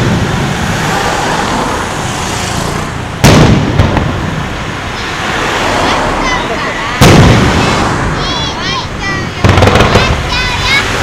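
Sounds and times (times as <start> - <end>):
steady rushing background noise: 0.0 - 11.0.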